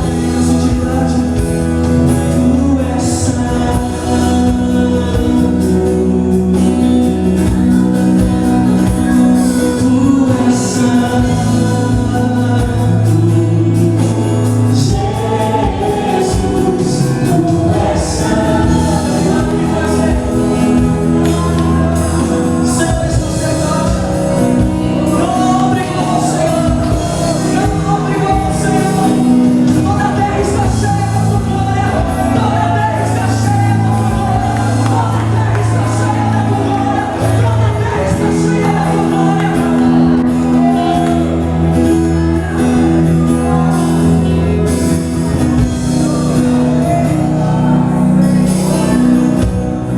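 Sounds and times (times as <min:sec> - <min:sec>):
bass: 0:00.0 - 0:49.9
keyboard chords: 0:00.0 - 0:49.9
voices singing: 0:00.0 - 0:49.9.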